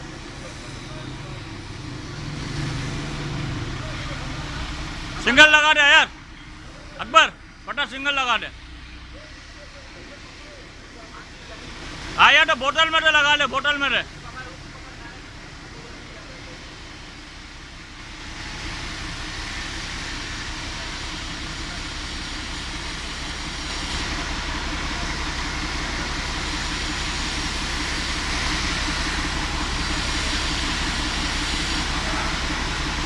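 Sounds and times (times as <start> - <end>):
heavy diesel machinery running: 0.0 - 33.0.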